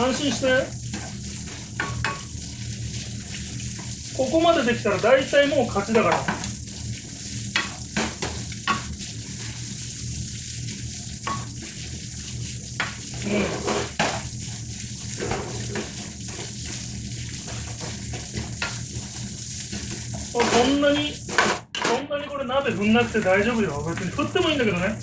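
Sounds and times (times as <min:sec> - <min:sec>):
ladle scraping a pan: 0:00.0 - 0:24.8
rice sizzling in a frying pan: 0:00.0 - 0:25.0.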